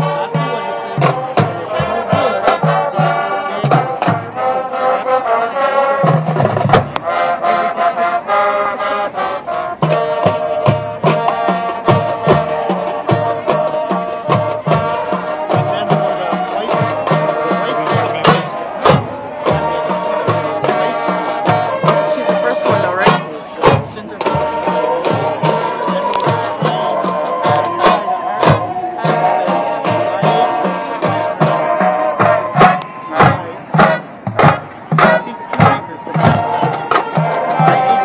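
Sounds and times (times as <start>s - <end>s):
brass holding chords: 0.0s - 38.0s
drums keeping steady beat: 0.0s - 38.0s.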